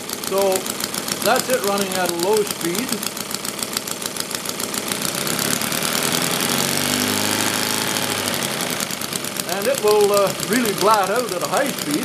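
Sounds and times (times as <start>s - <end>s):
model engine running: 0.0s - 12.0s.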